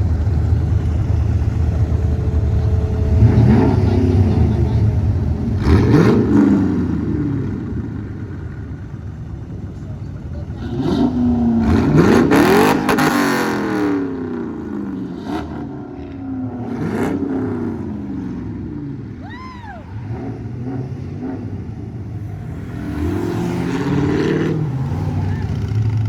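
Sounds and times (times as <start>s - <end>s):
car engines passing: 0.0s - 26.0s.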